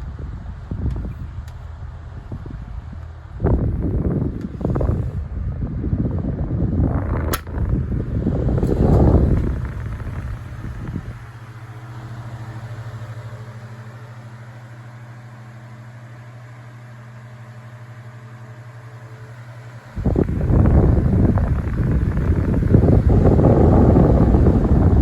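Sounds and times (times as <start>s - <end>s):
electric fan motor hum: 0.0s - 25.0s
fan airflow on microphone: 0.0s - 25.0s.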